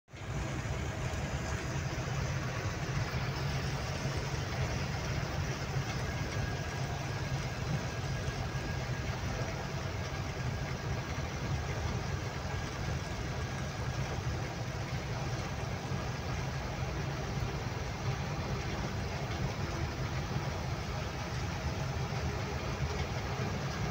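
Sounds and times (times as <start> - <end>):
road noise: 0.1 - 23.9
truck engine droning: 0.1 - 23.9.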